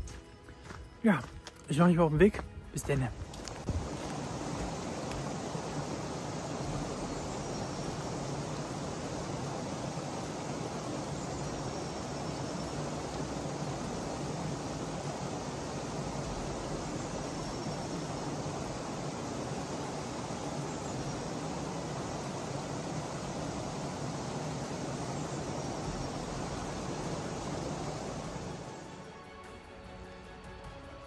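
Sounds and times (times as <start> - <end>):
running water rushing: 1.1 - 29.7.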